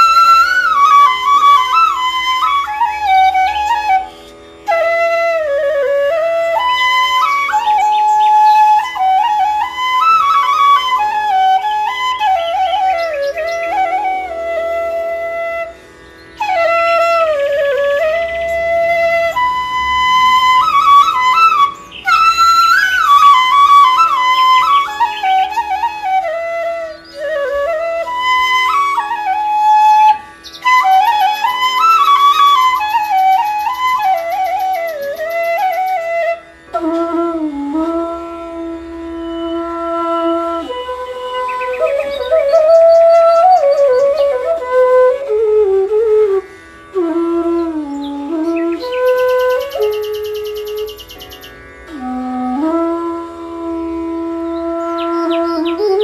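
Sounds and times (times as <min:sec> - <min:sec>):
flute playing ornamented melody: 0:00.0 - 0:56.0.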